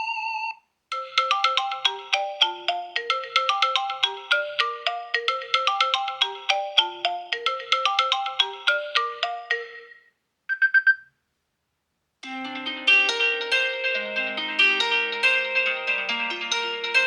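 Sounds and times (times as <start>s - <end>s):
phone ringtone melody: 0.0s - 11.1s, 12.2s - 17.0s.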